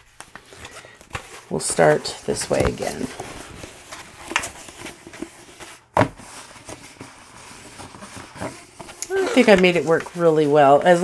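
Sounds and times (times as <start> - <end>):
plastic film rustling and crinkling: 0.0 - 11.0.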